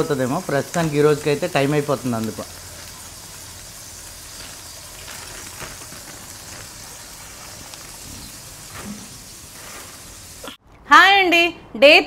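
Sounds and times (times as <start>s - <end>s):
food sizzling in frying pan: 0.0s - 10.6s.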